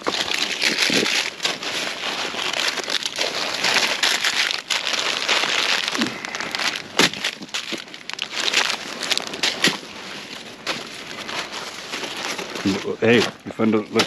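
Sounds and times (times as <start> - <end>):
plastic bags rustling: 0.0 - 14.0.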